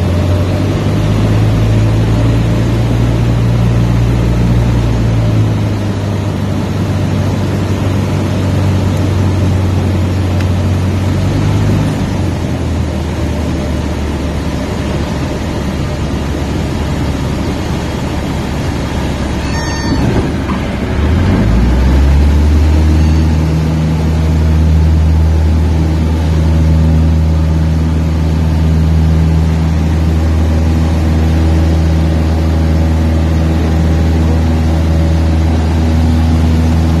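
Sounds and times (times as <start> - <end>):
light aircraft piston engine: 0.0 - 37.0.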